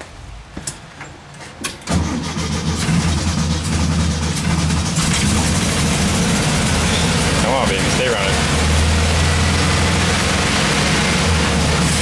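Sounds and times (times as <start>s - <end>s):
engine starting and running: 1.6s - 12.0s.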